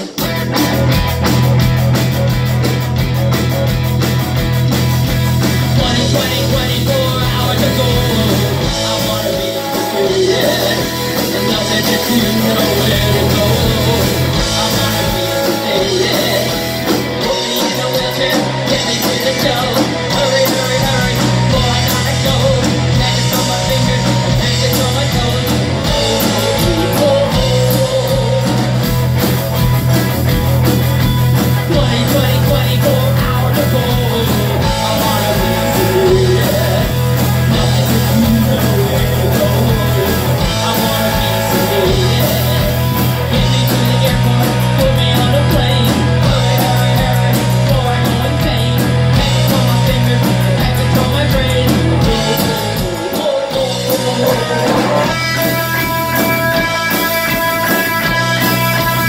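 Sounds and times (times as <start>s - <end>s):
bass: 0.0s - 59.0s
drum kit: 0.0s - 59.0s
electric guitars: 0.0s - 59.0s
person singing: 5.5s - 29.2s, 31.4s - 59.0s.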